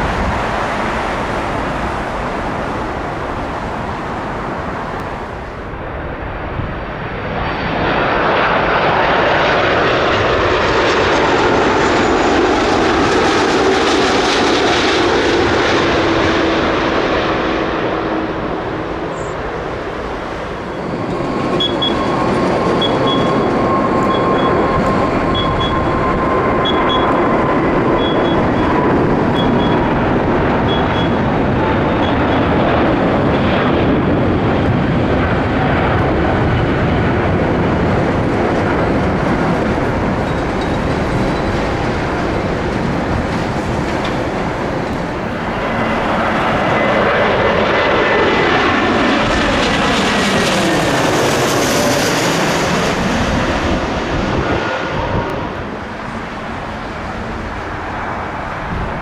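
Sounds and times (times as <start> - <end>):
jet engines passing overhead: 0.0 - 59.0.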